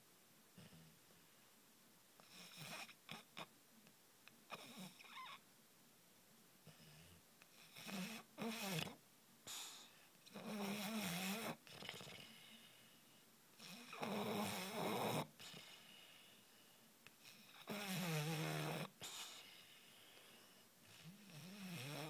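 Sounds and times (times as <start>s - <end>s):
quiet breathing: 0.0s - 3.5s, 6.6s - 22.0s.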